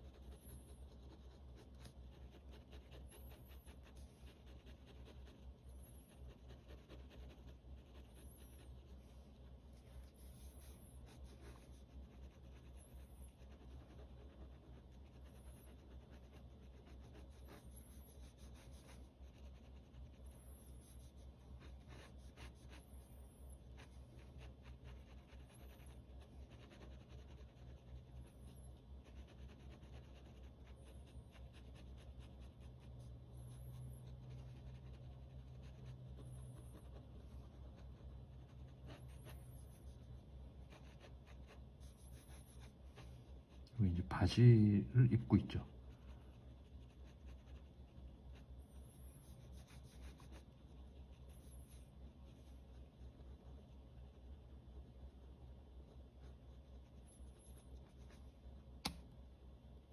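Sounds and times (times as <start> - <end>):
pen scratching on paper: 0.0 - 43.6, 45.2 - 58.6
steady low hum: 0.0 - 59.9.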